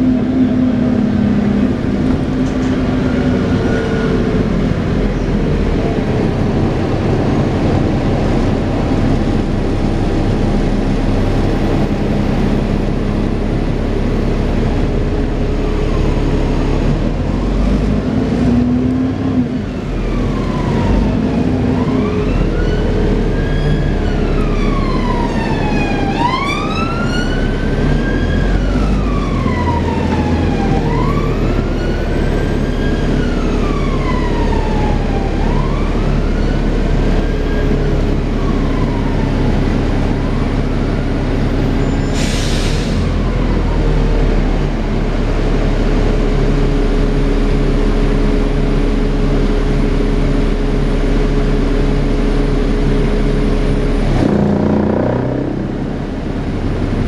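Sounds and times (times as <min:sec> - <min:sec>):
warbling siren: 0:00.0 - 0:42.2, 0:43.0 - 0:57.0
bus engine whirring drone: 0:00.0 - 0:57.0
wailing emergency siren: 0:00.0 - 0:57.0.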